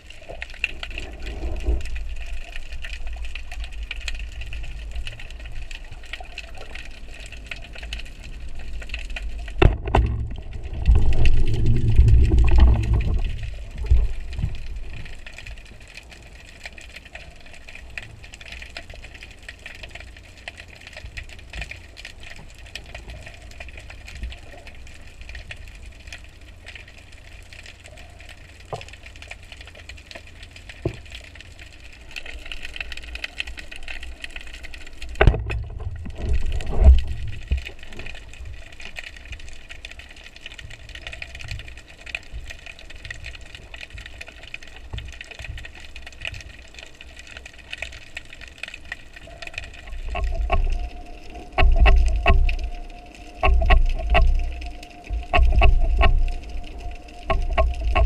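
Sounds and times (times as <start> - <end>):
faint clicks: 0.0 - 58.0
low churning water: 0.0 - 58.0
underwater low rumble: 0.0 - 58.0.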